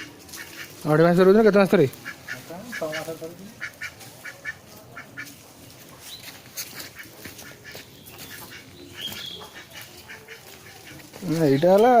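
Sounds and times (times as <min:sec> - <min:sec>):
poultry calling: 0:00.0 - 0:12.0.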